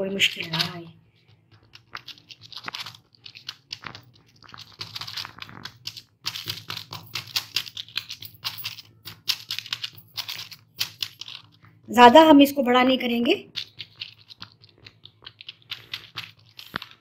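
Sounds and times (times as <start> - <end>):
paper crinkling and rustling: 0.4 - 11.8, 13.5 - 17.0.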